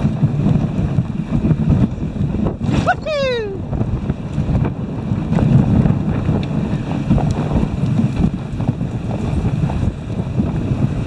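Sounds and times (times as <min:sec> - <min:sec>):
sled runners scraping snow: 0:00.0 - 0:11.0
wind rumble on microphone: 0:00.0 - 0:11.0.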